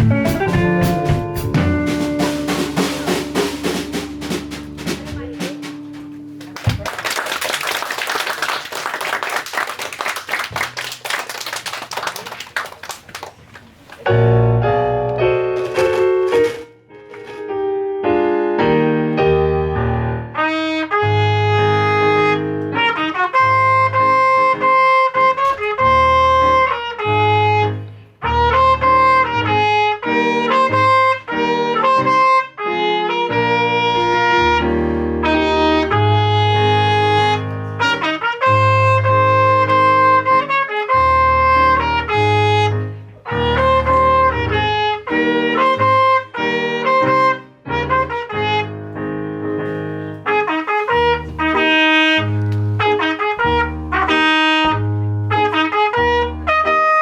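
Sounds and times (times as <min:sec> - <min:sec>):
instrumental pop-jazz music: 0:00.0 - 0:08.2, 0:09.0 - 0:57.0.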